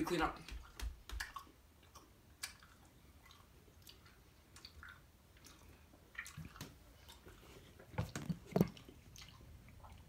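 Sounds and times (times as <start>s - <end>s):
soft wet sounds: 0.2s - 10.0s.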